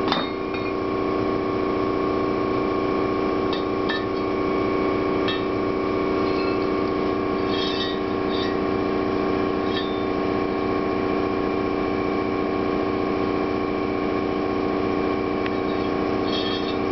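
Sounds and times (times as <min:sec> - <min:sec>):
air compressor running: 0:00.0 - 0:16.9.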